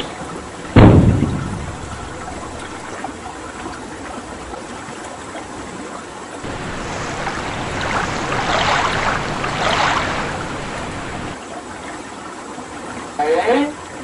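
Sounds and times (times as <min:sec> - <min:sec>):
waves washing and splashing: 0:00.0 - 0:13.2.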